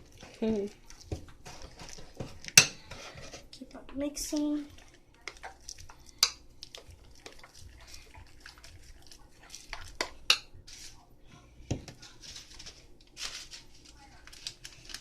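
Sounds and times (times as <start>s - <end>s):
slime being stirred in a bowl: 0.0s - 15.0s.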